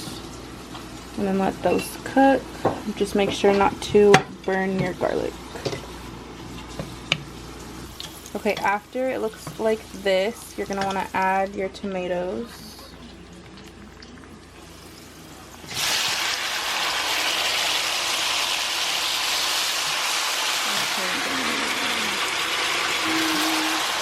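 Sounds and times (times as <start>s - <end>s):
tomatoes sizzling in hot oil: 0.0s - 11.6s, 14.6s - 24.0s.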